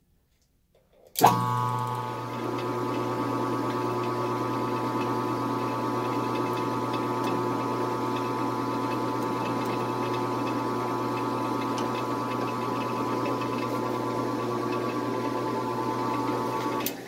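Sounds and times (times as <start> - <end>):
metal lathe running: 1.2 - 16.9.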